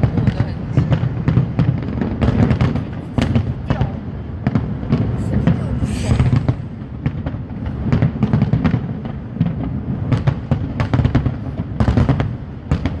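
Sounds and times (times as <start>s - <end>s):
fireworks bangs and crackles: 0.0s - 13.0s
low rumble of booms: 0.0s - 13.0s.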